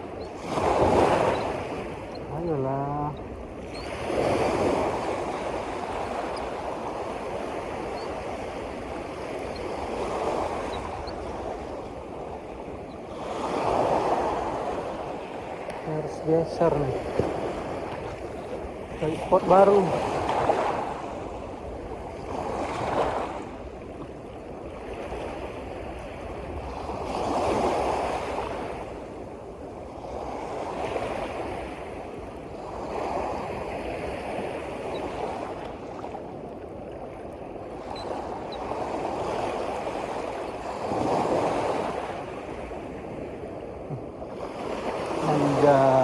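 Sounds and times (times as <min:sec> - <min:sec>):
sea waves washing in: 0:00.0 - 0:46.0.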